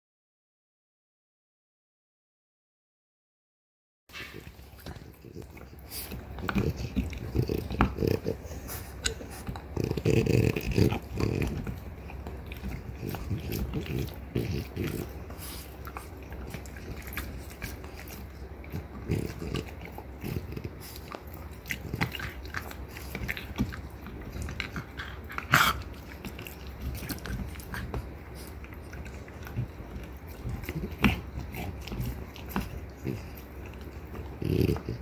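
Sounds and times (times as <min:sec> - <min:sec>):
dogs gnawing on antler: 0:04.2 - 0:35.0.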